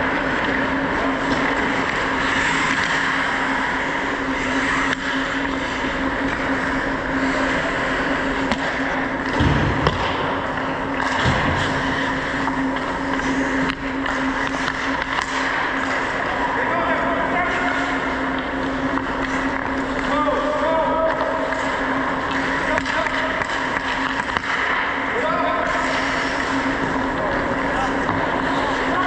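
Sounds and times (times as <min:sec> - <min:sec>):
hockey sticks and puck clicking: 0:00.0 - 0:16.4, 0:17.5 - 0:29.0
low hum: 0:00.0 - 0:29.0
skates rushing on ice: 0:00.0 - 0:29.0.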